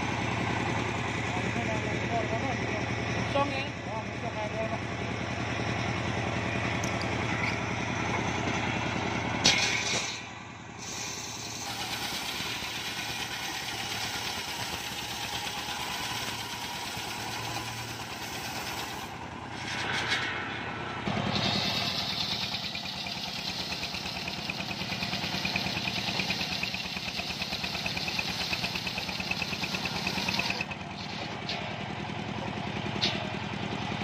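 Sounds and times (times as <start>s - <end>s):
circular sawmill cutting log: 0.0s - 34.0s.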